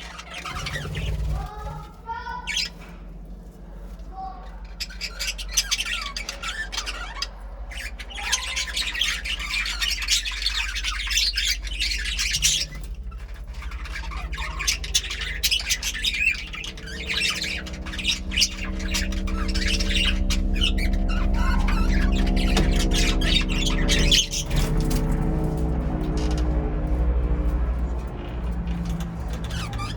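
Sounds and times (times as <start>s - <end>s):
budgerigars chattering: 0.0s - 1.6s, 4.5s - 29.9s
low steady drone: 3.0s - 29.9s.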